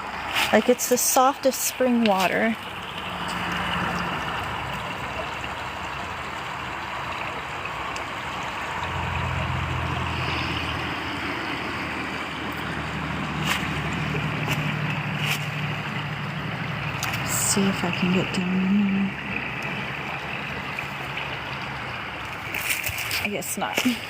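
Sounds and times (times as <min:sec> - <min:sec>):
low steady hum: 0:00.0 - 0:24.0
stream water rushing and gurgling: 0:00.0 - 0:24.0.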